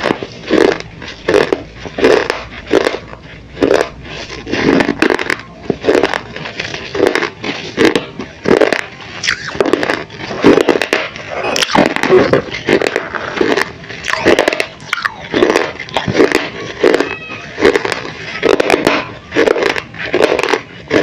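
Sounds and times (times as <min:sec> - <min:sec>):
chewing crunchy clay: 0:00.0 - 0:21.0.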